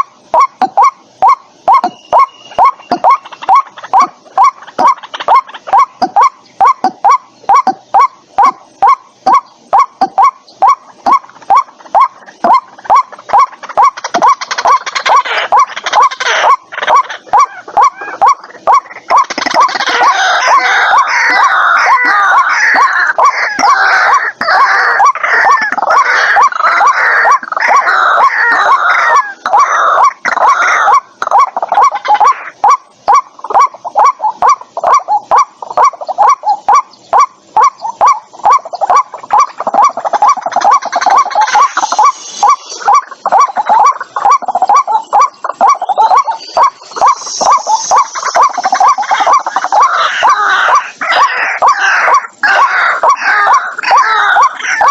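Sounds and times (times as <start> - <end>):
bird calling harsh notes: 0.0 - 54.9.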